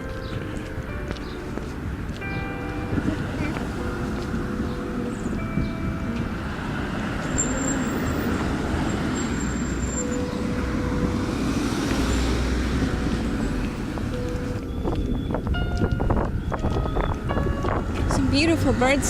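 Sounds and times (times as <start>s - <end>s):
road traffic noise: 0.0s - 19.0s
vehicle passing rumble: 0.0s - 19.0s.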